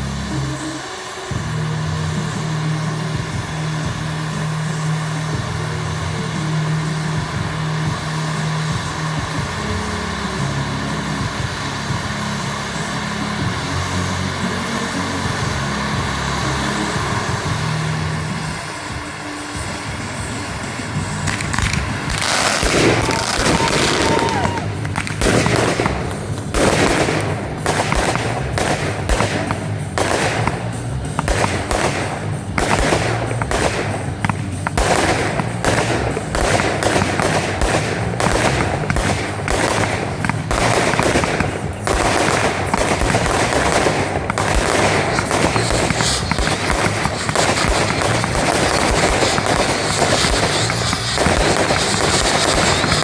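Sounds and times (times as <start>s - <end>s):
fireworks bangs and crackling: 0.0s - 53.0s.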